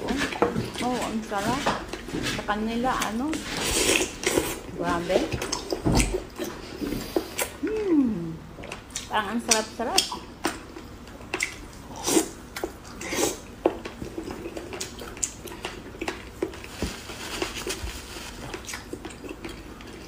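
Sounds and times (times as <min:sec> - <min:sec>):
wet chewing sounds: 0:03.0 - 0:07.9, 0:08.6 - 0:20.0.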